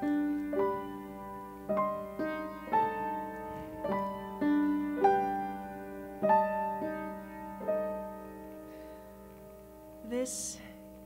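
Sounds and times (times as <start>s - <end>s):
piano notes and chords: 0.0s - 11.0s.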